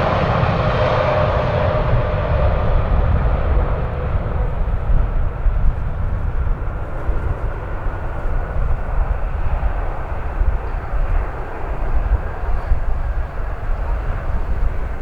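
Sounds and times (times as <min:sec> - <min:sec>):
airliner engine rumble: 0:00.0 - 0:15.0
wind buffeting microphone: 0:00.0 - 0:15.0.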